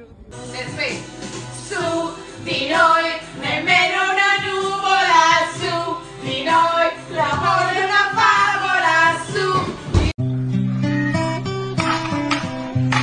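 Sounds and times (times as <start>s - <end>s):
backing music: 0.3s - 13.0s.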